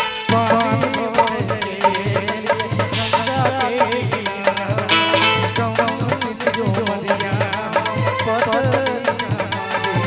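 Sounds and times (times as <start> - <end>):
quick steady drum beat: 0.0 - 10.0.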